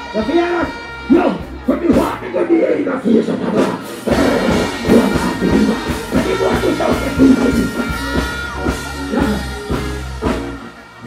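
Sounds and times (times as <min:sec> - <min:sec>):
loud live rock concert music: 0:00.0 - 0:11.0.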